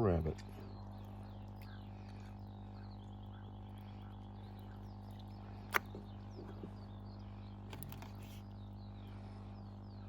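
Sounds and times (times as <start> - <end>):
small birds chirping: 0.0 - 10.0
steady low hum: 0.0 - 10.0.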